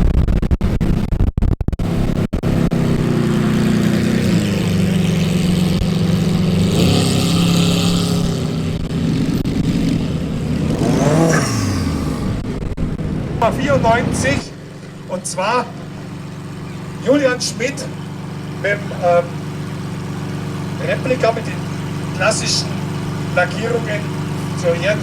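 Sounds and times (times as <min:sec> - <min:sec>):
sports car engine revving high: 0:01.8 - 0:25.0.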